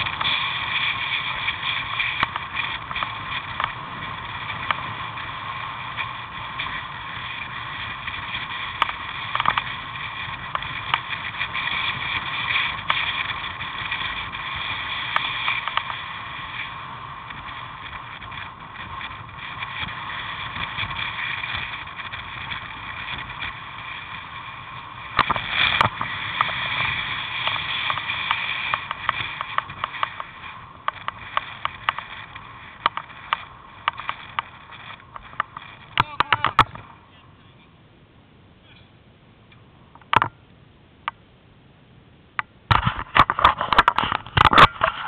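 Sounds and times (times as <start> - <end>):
bicycle ride noise: 0.0 - 45.0.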